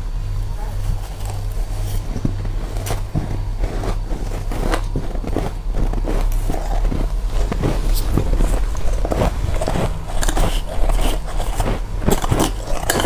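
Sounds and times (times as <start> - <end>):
steady low hum: 0.0 - 13.0
chewing crunchy frost: 0.6 - 13.0.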